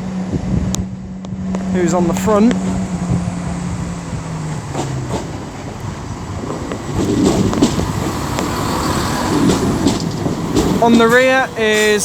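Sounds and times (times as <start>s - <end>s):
diesel train engine drone: 0.0s - 12.0s
train rumble: 0.0s - 12.0s.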